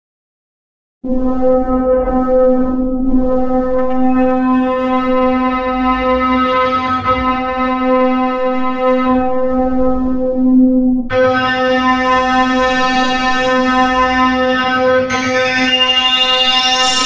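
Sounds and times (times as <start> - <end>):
bright synthesized piano drone: 1.4 - 17.0.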